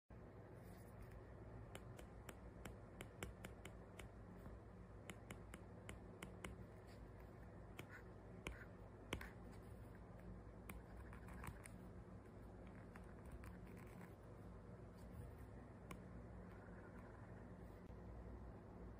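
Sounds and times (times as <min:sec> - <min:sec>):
faint low hum: 0:00.1 - 0:18.9.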